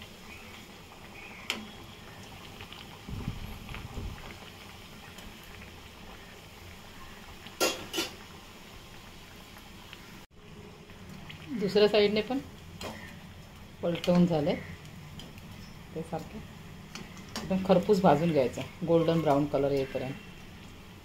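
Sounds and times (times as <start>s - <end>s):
deep-frying sizzle: 0.0s - 21.0s.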